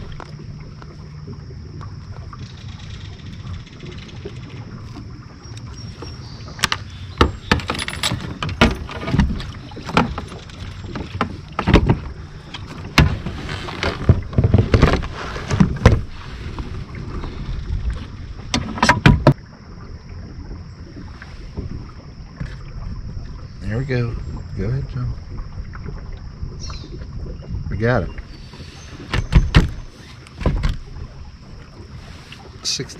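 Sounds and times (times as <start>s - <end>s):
knocks and clatter on kayak: 0.0s - 32.9s.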